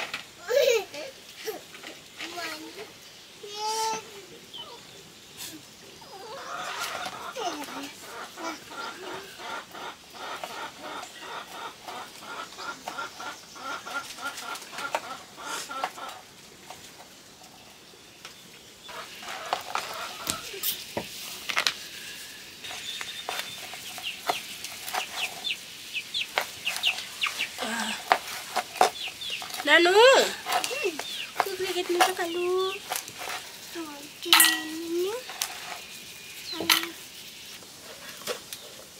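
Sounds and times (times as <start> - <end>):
chickens clucking: 4.0 - 17.7, 18.8 - 38.9.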